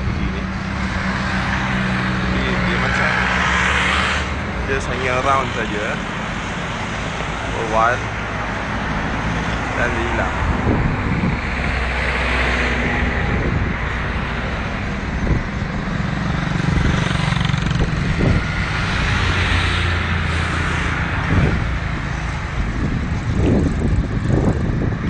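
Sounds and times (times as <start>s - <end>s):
vehicle engines humming: 0.0s - 25.0s.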